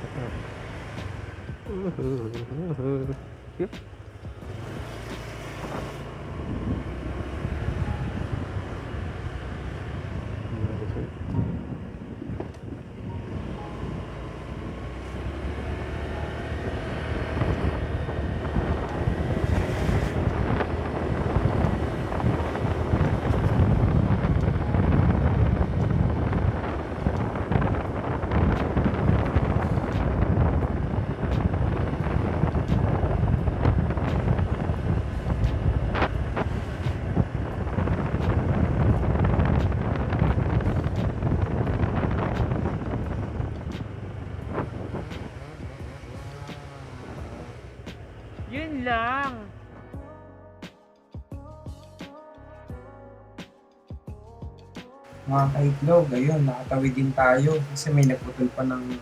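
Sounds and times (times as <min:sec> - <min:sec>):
wind buffeting microphone: 0:00.0 - 0:49.6, 0:55.1 - 0:59.0.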